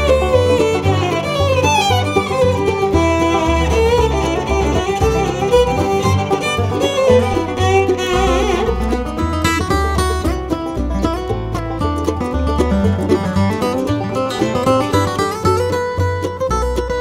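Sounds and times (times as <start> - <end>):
fiddle tune with plucked strings: 0.0 - 17.0
steady bass beat: 0.0 - 17.0.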